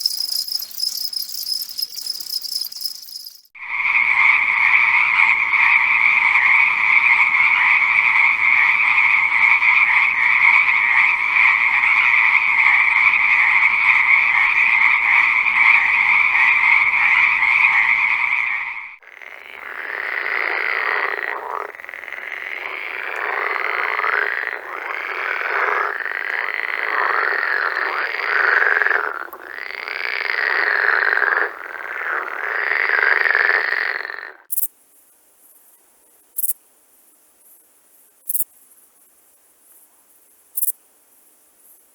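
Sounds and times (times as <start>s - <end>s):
frogs calling in chorus: 0.0s - 34.7s, 40.6s - 40.8s.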